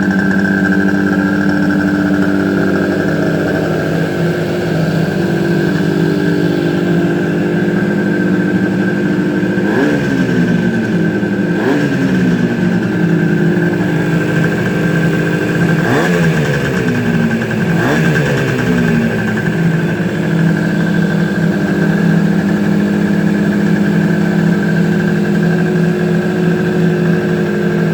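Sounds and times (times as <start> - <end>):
two-stroke engine idling and revving: 0.0 - 27.9.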